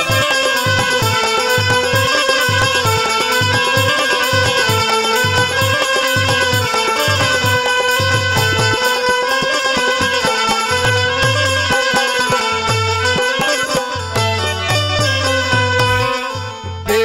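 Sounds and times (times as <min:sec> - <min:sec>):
deep hand-drum beats: 0:00.0 - 0:17.0
sustained melody instrument: 0:00.0 - 0:17.0.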